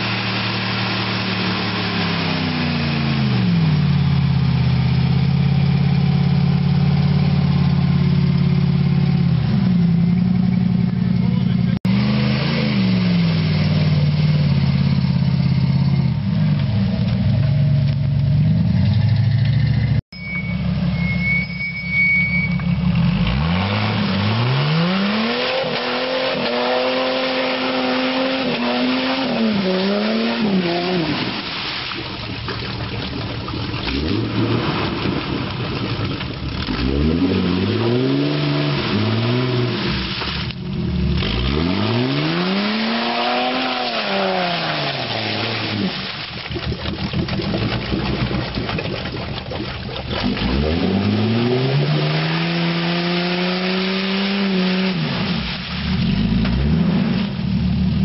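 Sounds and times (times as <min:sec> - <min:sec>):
engine revving in mud: 0:00.0 - 0:58.0.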